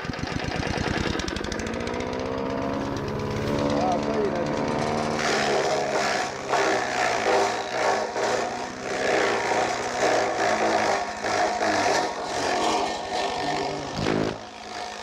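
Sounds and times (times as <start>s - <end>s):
chaff cutter chopping stalks: 0.0s - 15.0s
small petrol engine running: 0.0s - 15.0s.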